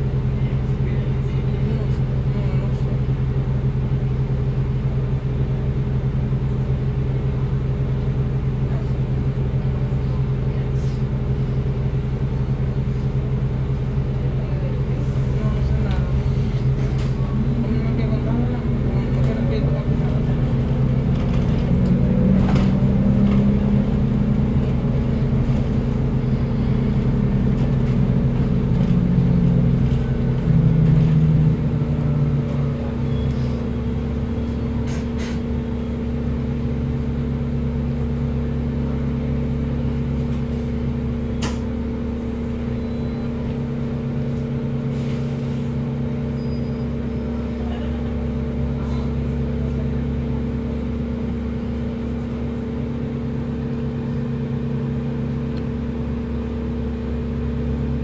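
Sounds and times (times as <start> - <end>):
bus drivetrain humming: 0.0 - 58.0.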